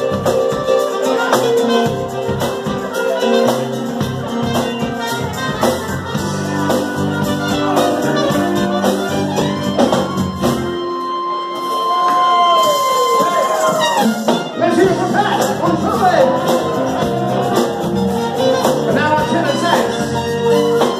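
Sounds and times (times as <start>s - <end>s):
drums steady beat: 0.0s - 20.9s
live band playing: 0.0s - 20.9s.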